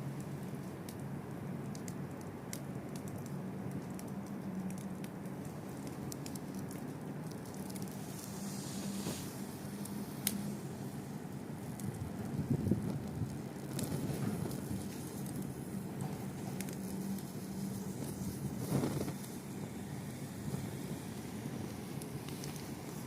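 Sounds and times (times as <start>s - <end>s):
fire crackles and pops: 0.0s - 23.0s
wood fire hissing: 0.0s - 23.0s.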